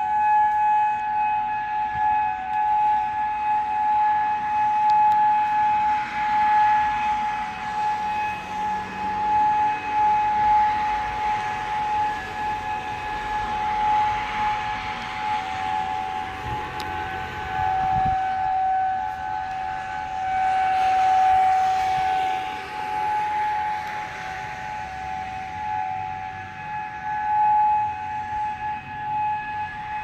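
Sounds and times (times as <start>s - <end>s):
warning siren steady tone: 0.0s - 30.0s.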